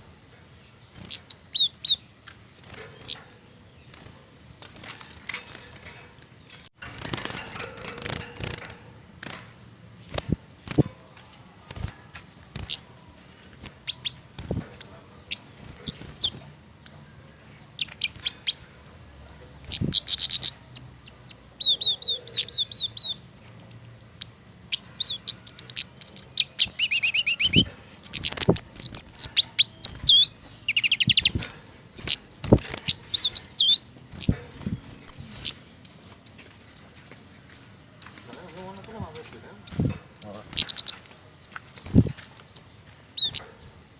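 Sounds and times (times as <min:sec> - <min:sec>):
songbird chirping and trilling: 0:00.0 - 0:43.9.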